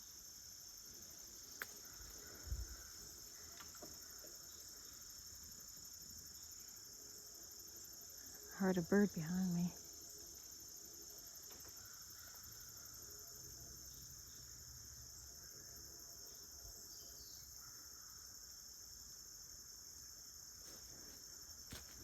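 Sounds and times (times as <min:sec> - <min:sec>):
crickets and insects chirping: 0:00.0 - 0:22.0.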